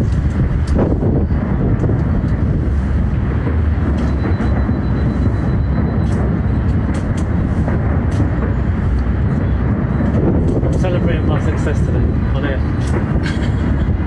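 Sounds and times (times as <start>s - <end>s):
distant fireworks booming: 0.9s - 14.0s.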